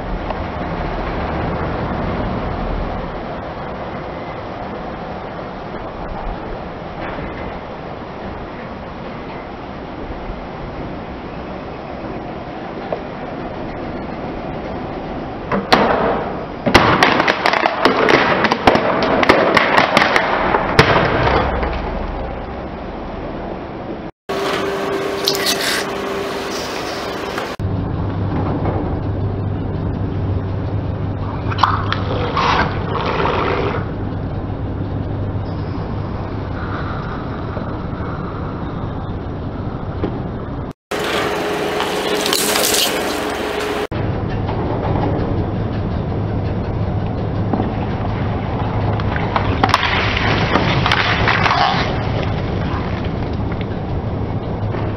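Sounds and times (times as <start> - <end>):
car rolling: 0.0 - 54.9.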